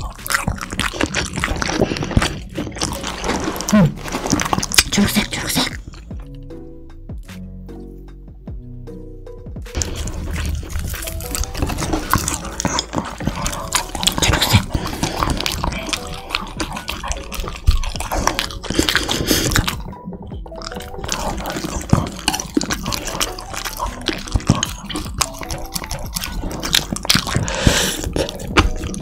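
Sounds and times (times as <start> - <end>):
sticky food handling sounds: 0.0 - 6.2, 9.7 - 29.0
dog chewing and licking: 0.0 - 6.4, 9.7 - 29.0.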